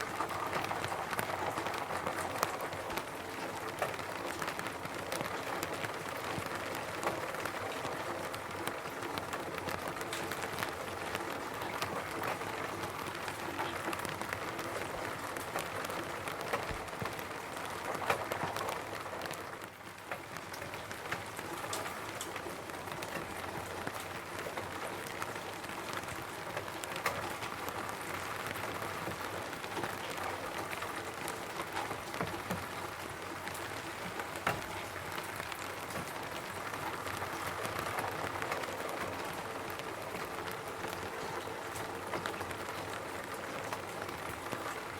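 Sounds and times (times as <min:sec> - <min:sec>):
rain on a roof: 0:00.0 - 0:44.9.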